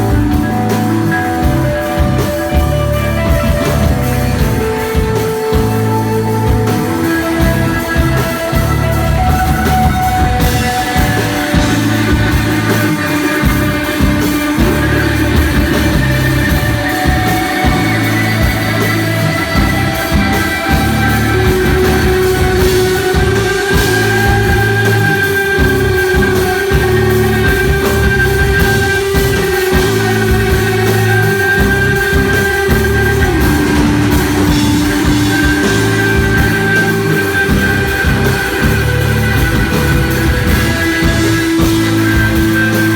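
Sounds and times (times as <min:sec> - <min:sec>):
bass guitar: 0:00.0 - 0:42.9
drum kit: 0:00.0 - 0:42.9
electric guitar droning notes: 0:00.0 - 0:42.9.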